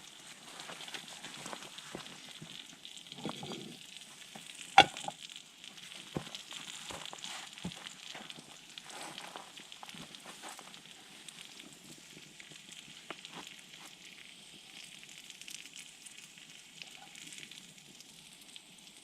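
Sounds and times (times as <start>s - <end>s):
campfire pops: 0.0s - 18.1s
campfire sizzling and crackling: 0.0s - 19.0s.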